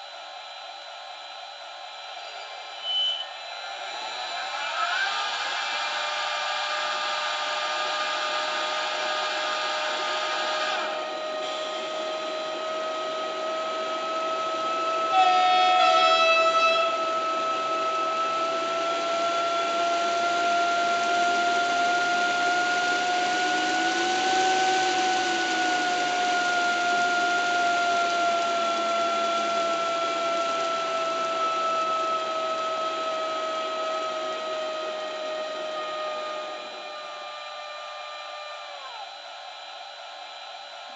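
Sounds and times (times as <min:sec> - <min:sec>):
locomotive traction whine: 0:00.0 - 0:40.9.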